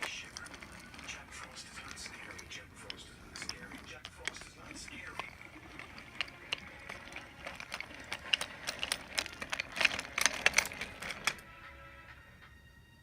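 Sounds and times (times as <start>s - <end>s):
wooden toy railway pieces clicking: 0.0s - 11.6s
faint steady music tones: 0.0s - 13.0s.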